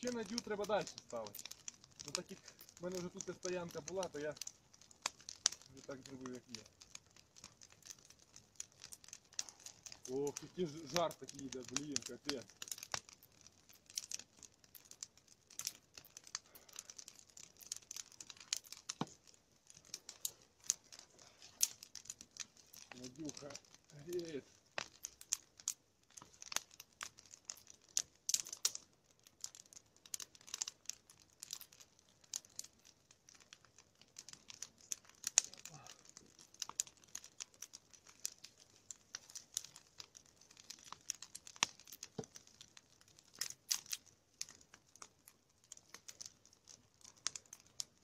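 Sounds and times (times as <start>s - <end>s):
campfire crackling and snapping: 0.0s - 48.0s.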